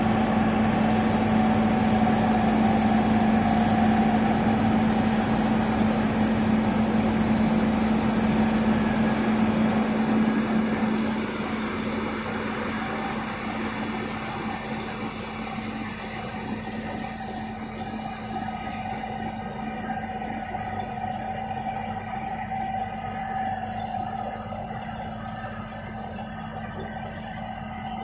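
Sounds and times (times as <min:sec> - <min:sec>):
bulldozer engine droning: 0:00.0 - 0:28.0.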